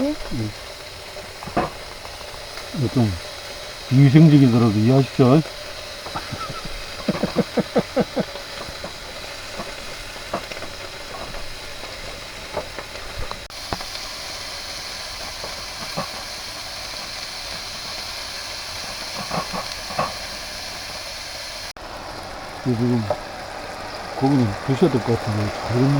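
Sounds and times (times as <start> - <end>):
beef sizzling on a grill: 0.0 - 25.9.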